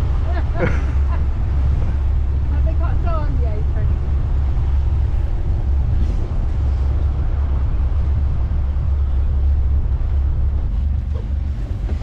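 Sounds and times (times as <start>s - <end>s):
motorboat engine running: 0.0s - 12.0s
wind buffeting microphone: 0.0s - 12.0s.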